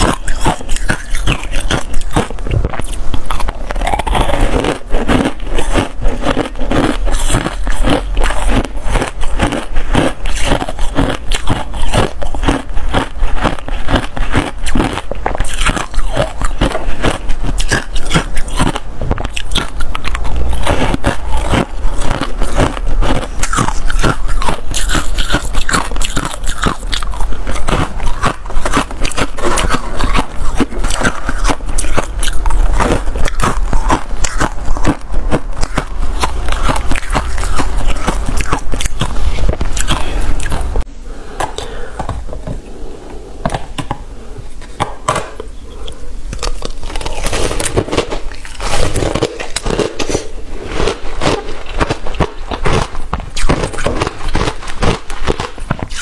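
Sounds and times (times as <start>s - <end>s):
ice being chewed: 0.0s - 40.9s, 44.6s - 56.0s.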